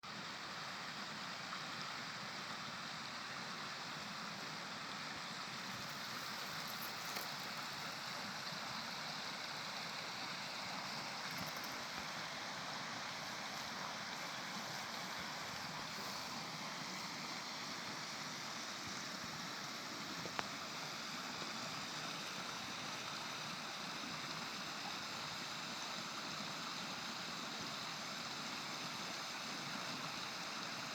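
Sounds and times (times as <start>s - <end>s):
flowing water rushing: 0.1s - 30.9s.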